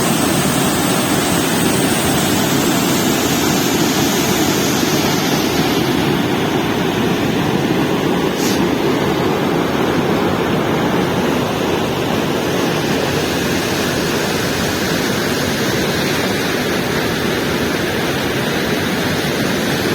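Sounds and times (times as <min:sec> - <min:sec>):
rushing water: 0:00.0 - 0:19.9.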